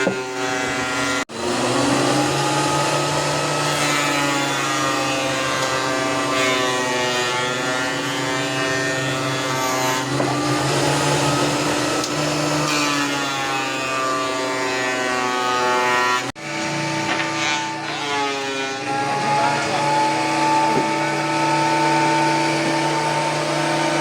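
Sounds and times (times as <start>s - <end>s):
thickness planer motor whine: 0.0s - 24.0s.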